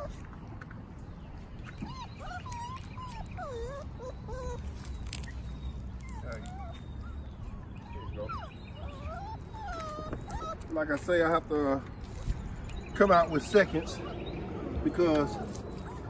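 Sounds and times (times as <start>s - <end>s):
puppies whining and whimpering: 0.0s - 0.4s, 1.4s - 16.0s.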